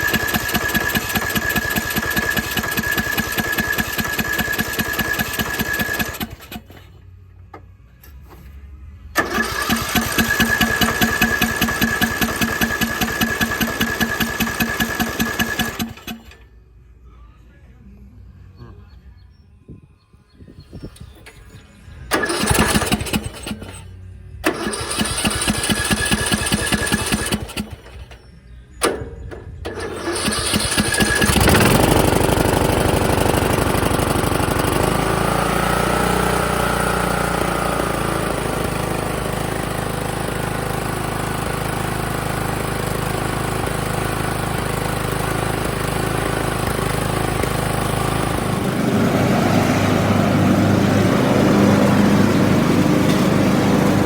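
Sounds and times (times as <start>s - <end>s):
electric starter cranking engine: 0.0s - 7.0s, 9.2s - 16.5s, 20.7s - 54.0s
mower engine running: 0.0s - 7.0s, 9.2s - 16.5s, 22.1s - 54.0s.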